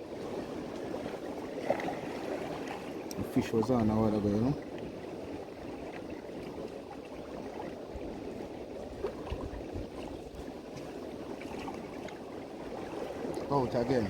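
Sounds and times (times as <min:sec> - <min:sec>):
sea water washing on shore: 0:00.0 - 0:14.0.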